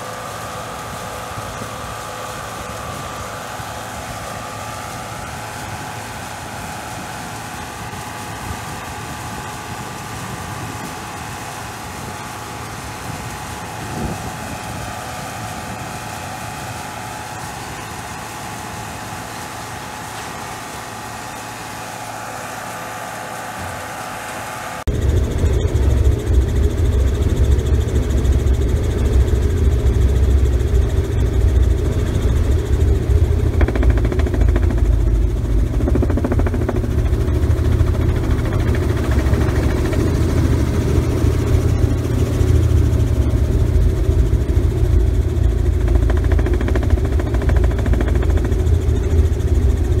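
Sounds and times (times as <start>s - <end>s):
deep engine rumble: 0.0s - 50.0s
tractor and baler humming: 0.0s - 50.0s.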